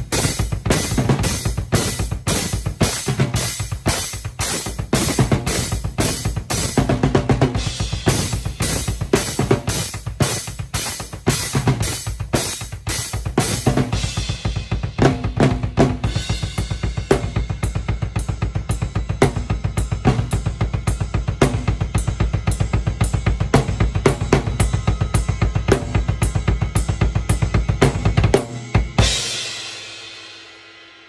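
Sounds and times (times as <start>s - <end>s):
cymbals: 0.0s - 31.0s.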